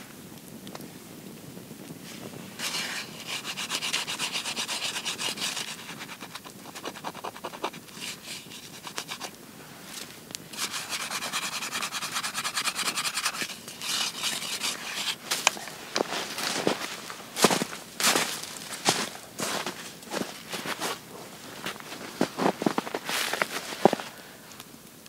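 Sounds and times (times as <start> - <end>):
plate scrubbed with snow: 2.1 - 24.2.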